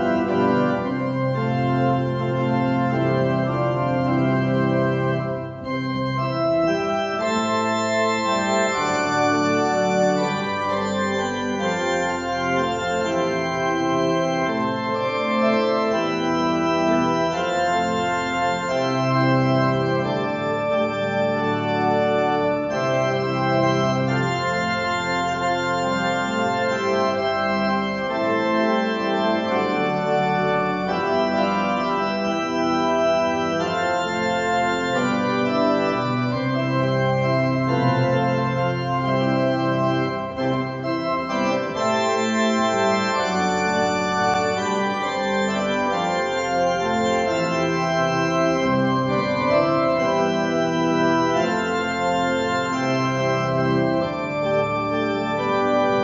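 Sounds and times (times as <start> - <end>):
organ playing hymn: 0.0 - 56.0.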